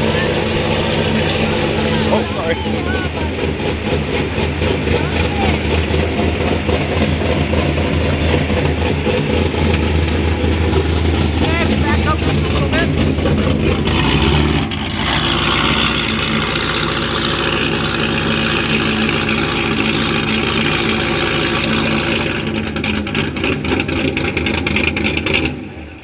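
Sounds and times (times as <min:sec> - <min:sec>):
car engine revving: 0:00.0 - 0:26.0
exhaust crackle: 0:00.0 - 0:26.0.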